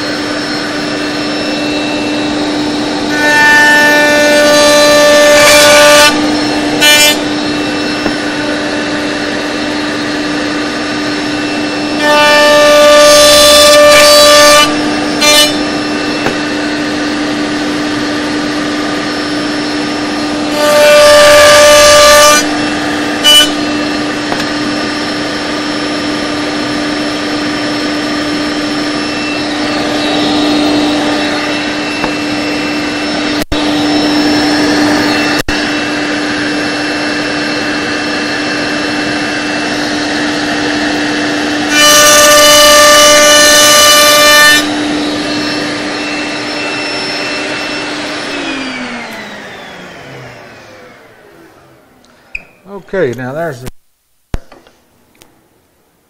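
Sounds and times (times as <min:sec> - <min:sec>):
router bit screaming in wood: 0:00.0 - 0:35.5, 0:36.1 - 0:51.8
router running: 0:00.0 - 0:52.2.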